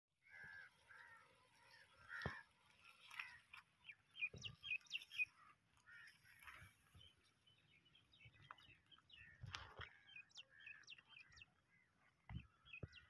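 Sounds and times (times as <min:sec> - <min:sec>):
faint birdsong: 0:00.2 - 0:13.0.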